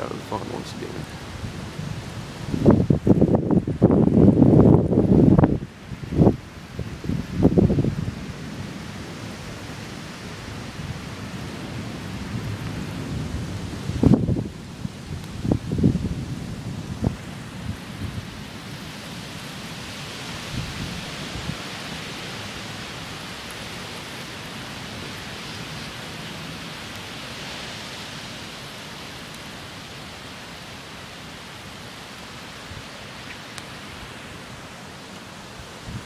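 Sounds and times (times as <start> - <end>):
wind gusts buffeting microphone: 0.0 - 29.6, 35.5 - 36.0
steady rain: 0.0 - 36.0.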